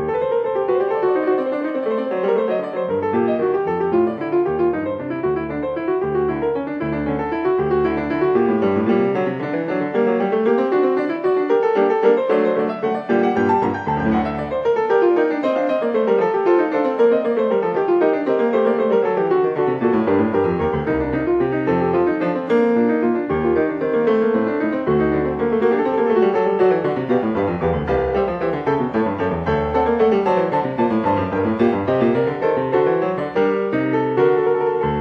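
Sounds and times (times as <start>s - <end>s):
piano fast runs: 0.0s - 35.0s.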